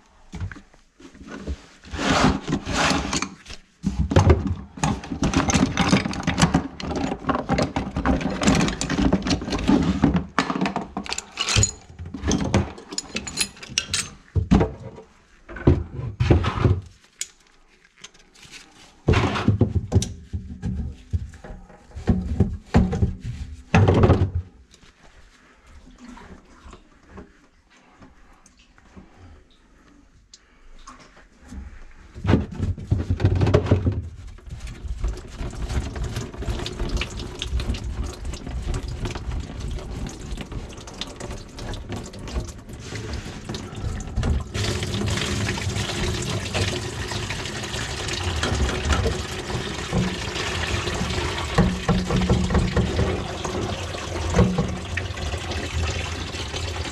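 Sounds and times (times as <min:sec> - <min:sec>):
plastic bucket and tools clattering: 0:00.4 - 0:17.4, 0:18.0 - 0:24.7, 0:32.2 - 0:56.9.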